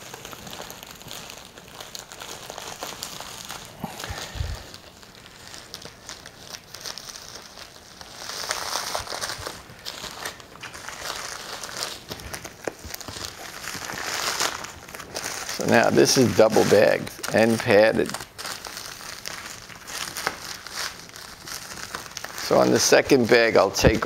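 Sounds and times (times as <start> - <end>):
paper envelopes crinkling: 0.0 - 24.0.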